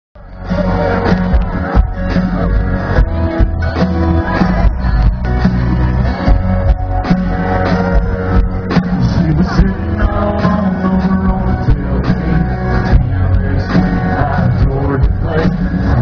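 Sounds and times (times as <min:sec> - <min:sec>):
live country band: 0:00.2 - 0:16.0.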